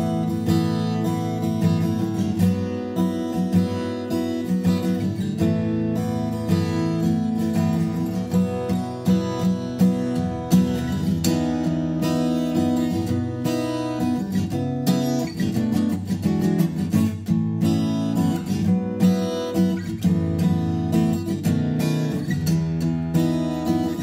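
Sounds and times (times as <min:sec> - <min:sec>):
acoustic guitar fingerstyle: 0:00.0 - 0:24.0.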